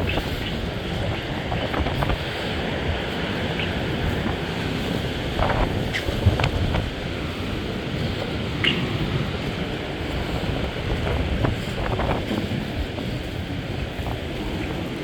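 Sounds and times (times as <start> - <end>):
storm surf on shore: 0.0 - 15.0
wind buffeting microphone: 0.0 - 15.0.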